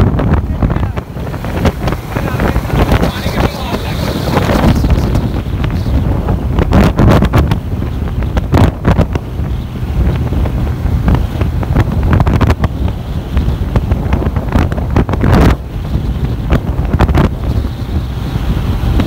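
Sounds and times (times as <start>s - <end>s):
low vehicle rumble: 0.0s - 19.0s
wind buffeting microphone: 0.0s - 19.0s.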